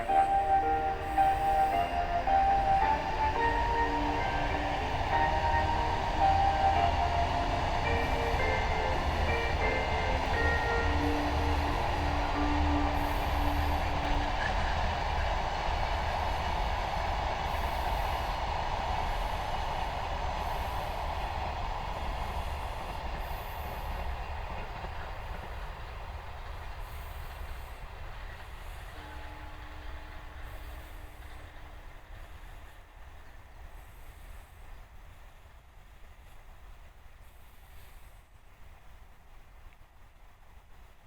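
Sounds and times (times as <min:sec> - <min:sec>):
freight train rolling rumble: 0:00.0 - 0:41.0.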